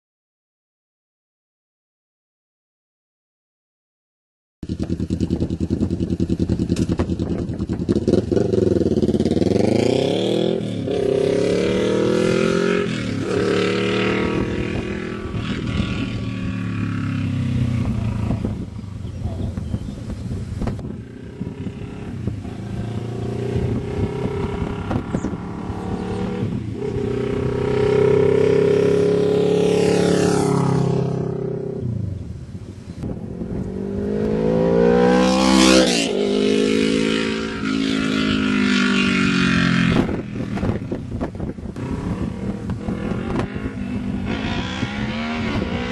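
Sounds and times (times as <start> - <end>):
motorcycle engine revving: 4.6 - 32.2, 33.0 - 45.9.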